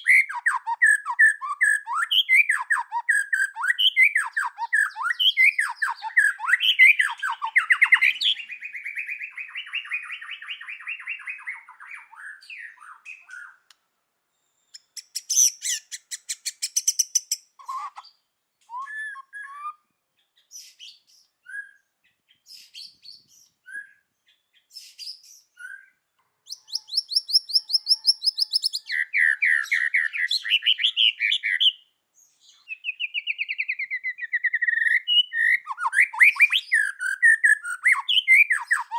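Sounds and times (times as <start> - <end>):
bird singing whistled phrases: 0.0 - 13.7, 14.8 - 38.9.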